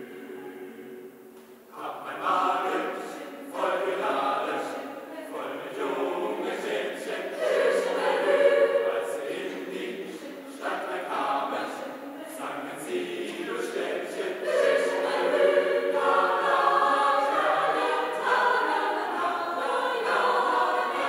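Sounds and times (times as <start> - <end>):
mixed choir singing: 0.0 - 21.0.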